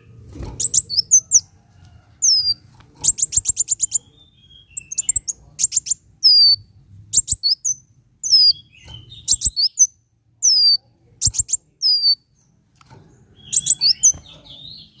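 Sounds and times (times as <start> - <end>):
sunbird singing: 0.0 - 1.5, 2.2 - 12.6, 13.2 - 15.0.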